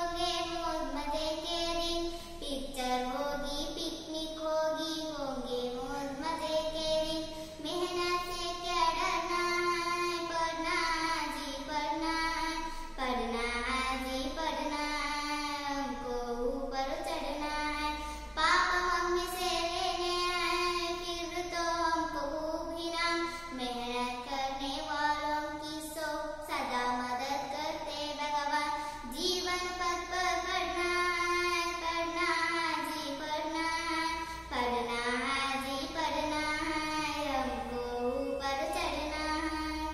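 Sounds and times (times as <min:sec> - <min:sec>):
girl singing: 0:00.0 - 0:39.9.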